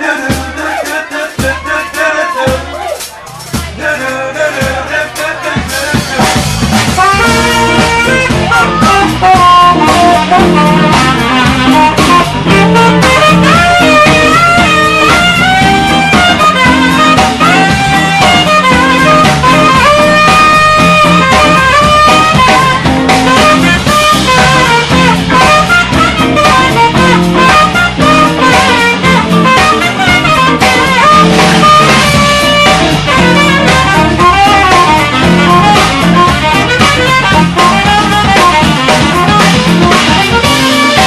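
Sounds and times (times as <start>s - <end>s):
drum kit: 0.0s - 41.0s
electric guitar: 5.5s - 41.0s
saxophone solo: 6.1s - 41.0s.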